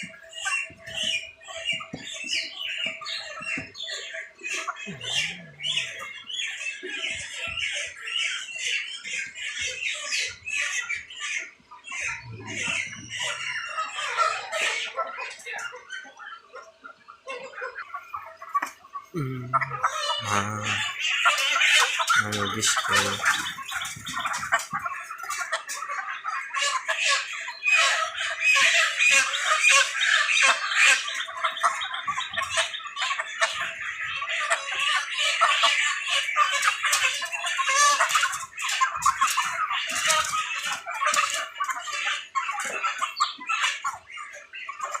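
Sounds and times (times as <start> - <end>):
chickens cheeping: 0.0 - 45.0.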